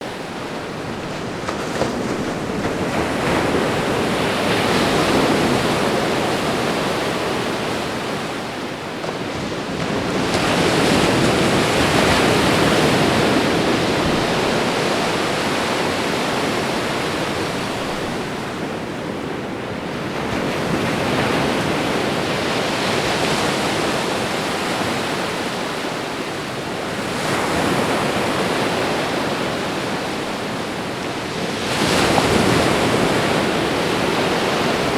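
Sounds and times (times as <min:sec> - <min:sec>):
ocean waves washing onto shore: 0:00.0 - 0:34.9.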